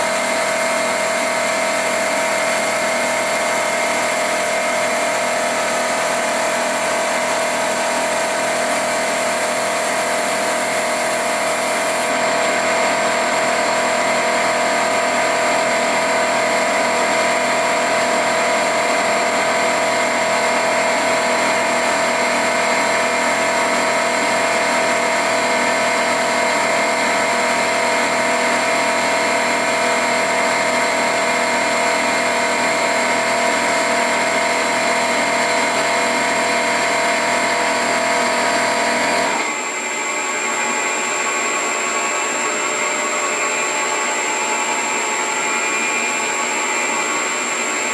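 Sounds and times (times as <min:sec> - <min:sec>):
milling machine cutting steel: 0:00.0 - 0:47.9.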